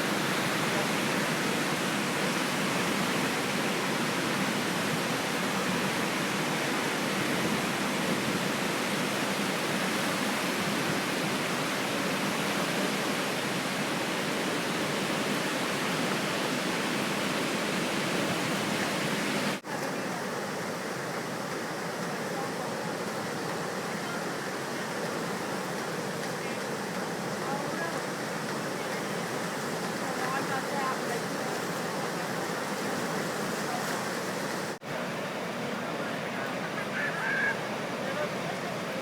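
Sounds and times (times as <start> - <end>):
flooded river rushing: 0.0 - 39.0.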